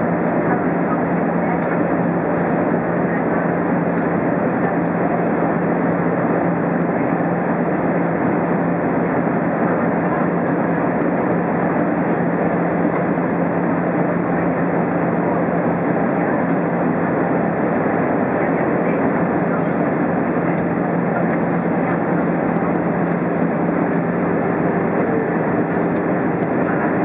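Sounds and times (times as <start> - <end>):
engines and airflow rushing: 0.0 - 27.0
steady low hum: 0.0 - 27.0.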